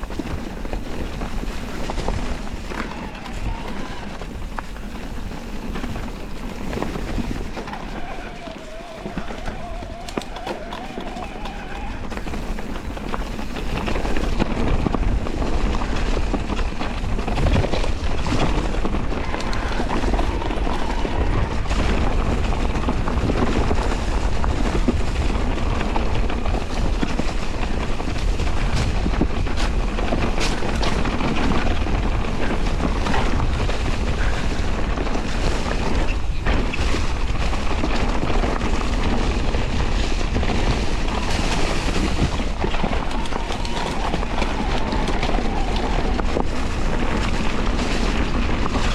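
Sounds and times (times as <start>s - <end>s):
tyre noise on dirt: 0.0s - 48.9s
wind buffeting microphone: 0.0s - 48.9s.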